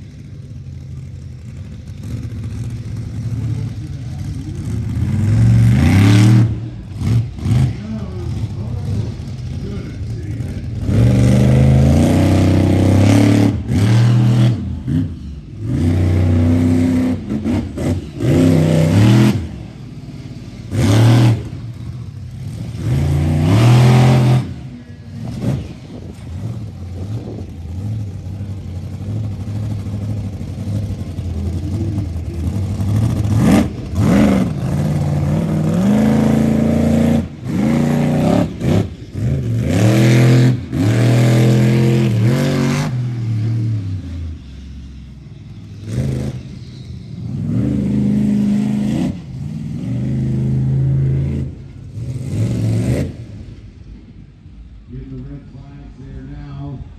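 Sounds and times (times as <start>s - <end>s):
truck engine revving: 0.0s - 56.9s.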